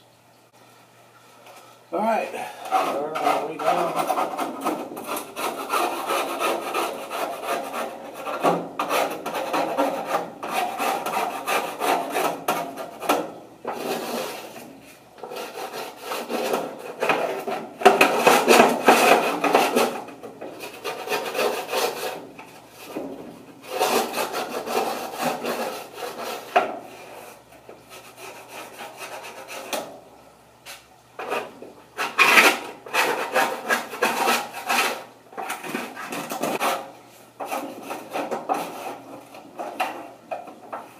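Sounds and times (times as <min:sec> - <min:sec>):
scraper rasping on grill: 0:02.4 - 0:29.8, 0:31.2 - 0:40.2.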